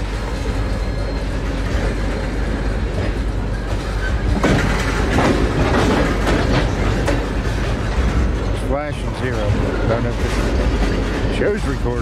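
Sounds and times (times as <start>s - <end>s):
freight train wheels rumbling: 0.0s - 12.0s
wheels clacking over rail joints: 0.0s - 12.0s.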